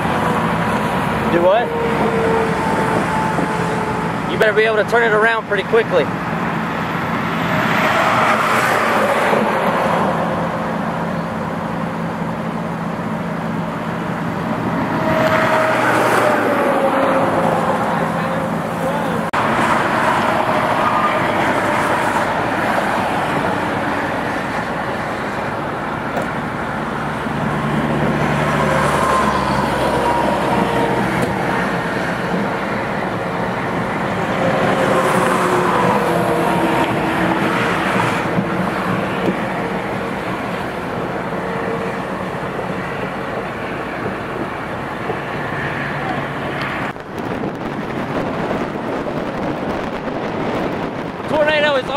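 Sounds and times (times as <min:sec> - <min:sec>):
road traffic noise: 0:00.0 - 0:51.9.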